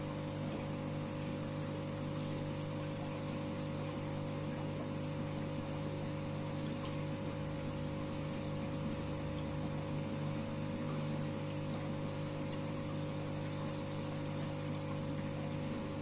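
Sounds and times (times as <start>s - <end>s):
aquarium pump humming: 0.0s - 16.0s.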